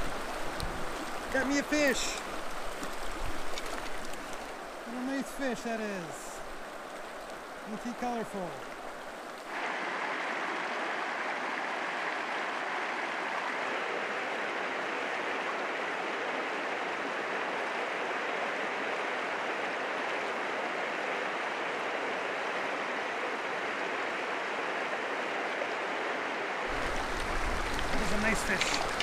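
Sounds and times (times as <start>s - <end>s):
creek water rushing over rocks: 0.0s - 29.0s.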